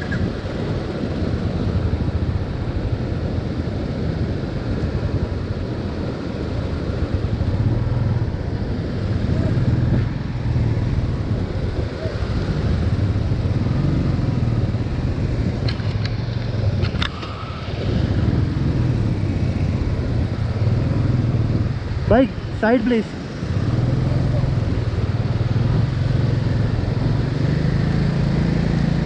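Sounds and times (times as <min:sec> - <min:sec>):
motorcycle engine running: 0:00.0 - 0:29.0
stream rushing: 0:00.0 - 0:29.0.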